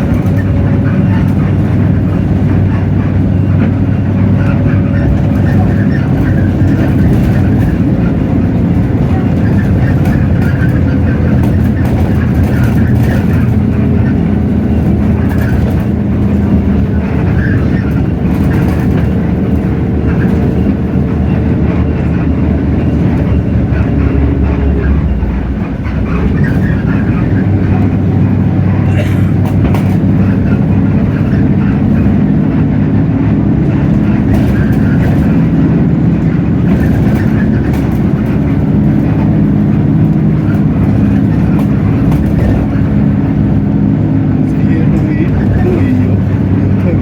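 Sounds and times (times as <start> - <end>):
bus diesel engine running: 0.0 - 47.0.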